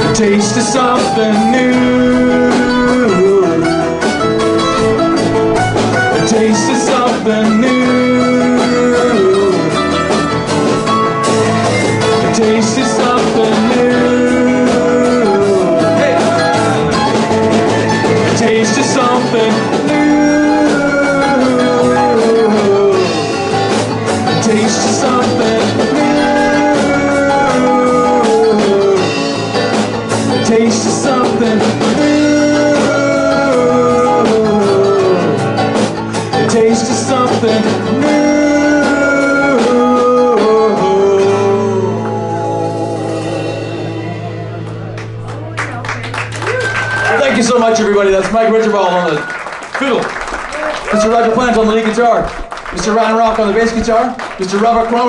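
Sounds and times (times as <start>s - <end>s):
strummed acoustic guitar: 0.0s - 45.8s
bass: 0.0s - 55.0s
drums: 0.0s - 55.0s
electric guitar: 0.0s - 55.0s
sliding melodic lead line: 0.0s - 55.0s.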